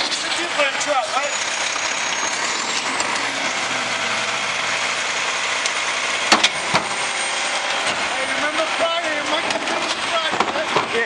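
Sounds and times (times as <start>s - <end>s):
diesel engine idling: 0.0s - 11.0s
hydraulic lifter whine: 0.0s - 11.0s.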